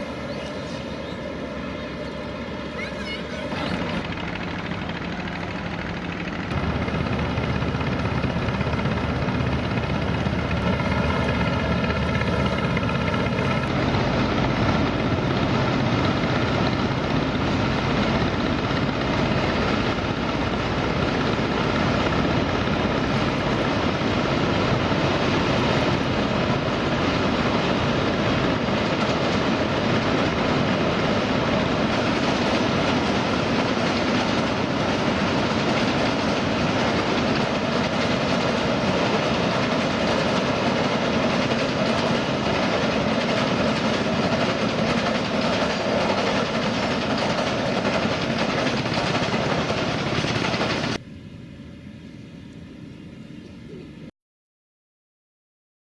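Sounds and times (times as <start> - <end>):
train wagons rumbling over bridge: 0.0 - 51.0
locomotive engine drone: 0.0 - 54.1.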